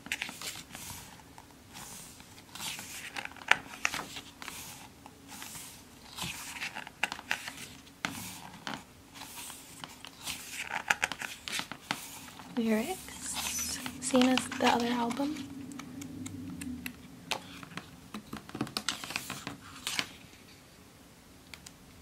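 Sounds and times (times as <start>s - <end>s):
book pages turning: 0.0s - 20.3s.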